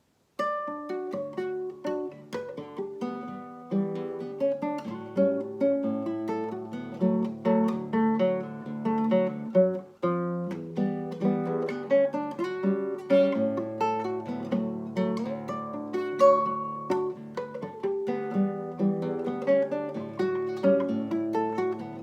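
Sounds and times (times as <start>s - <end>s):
fingerstyle acoustic guitar: 0.4s - 22.0s.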